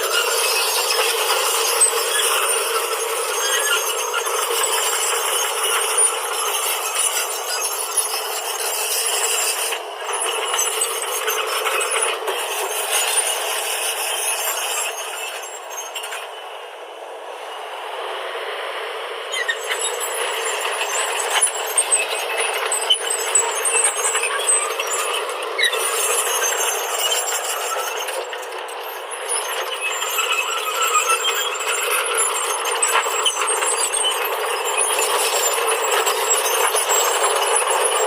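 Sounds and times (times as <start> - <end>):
backhoe engine running: 0.0 - 38.0.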